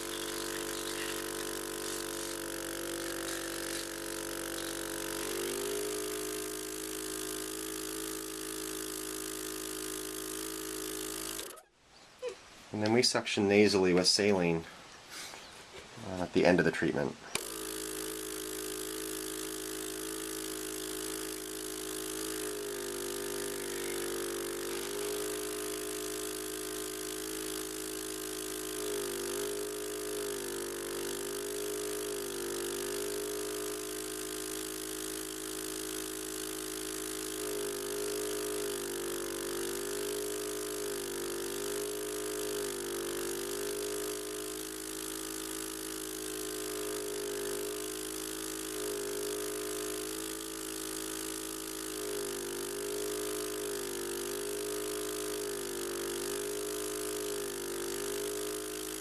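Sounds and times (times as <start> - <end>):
suction machine pump humming: 0.0 - 11.7, 17.3 - 59.0.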